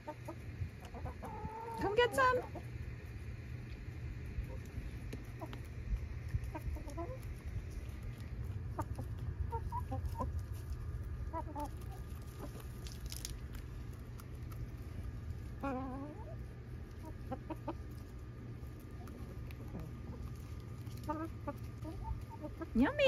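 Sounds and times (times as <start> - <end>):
hens clucking: 0.0 - 23.0
low steady rumble: 0.0 - 23.0.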